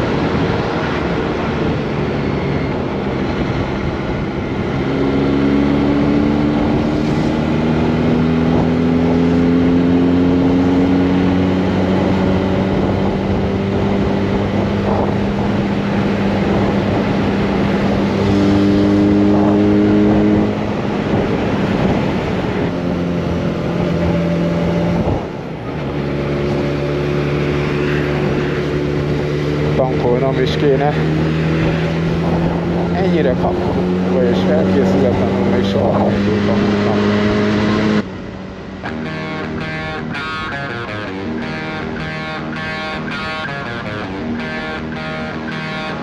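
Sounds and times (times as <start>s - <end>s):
motorcycle engine accelerating: 0.0s - 46.0s
wind noise: 0.0s - 46.0s.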